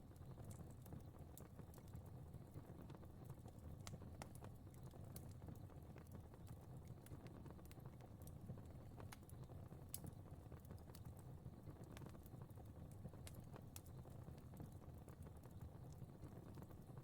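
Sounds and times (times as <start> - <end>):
faint fire crackling: 0.0 - 17.0.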